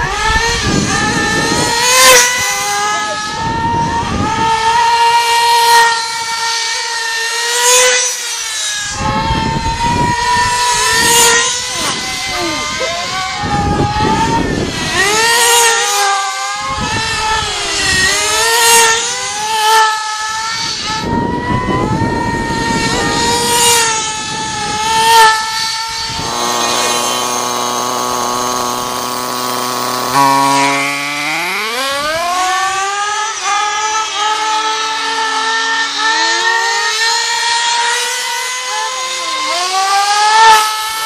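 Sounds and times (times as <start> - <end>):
rc buggy engines screaming: 0.0 - 41.0.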